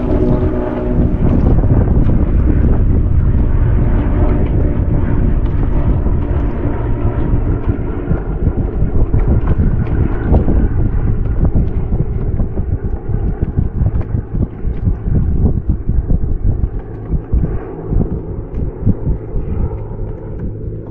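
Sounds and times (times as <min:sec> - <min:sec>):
propeller planes droning overhead: 0:00.0 - 0:20.9
wind buffeting microphone: 0:00.0 - 0:20.9.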